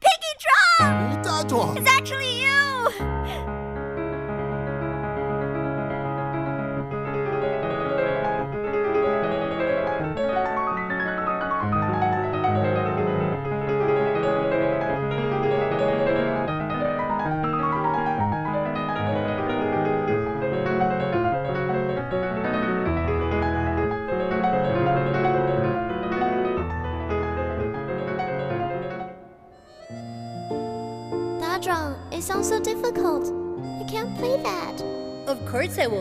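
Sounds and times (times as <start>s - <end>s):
piano piece: 0.0s - 36.0s.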